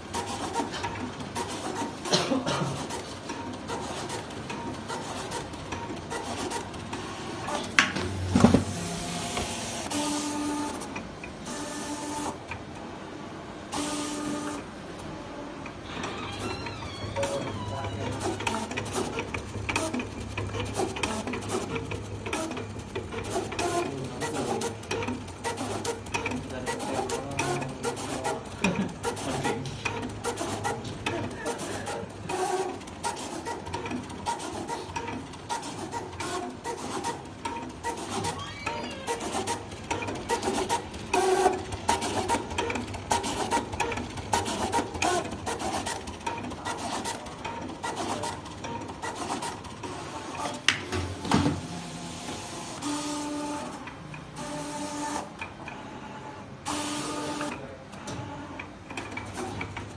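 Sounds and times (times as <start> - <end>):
die-cutting machine clicking and whirring: 0.0 - 12.9, 13.7 - 59.9.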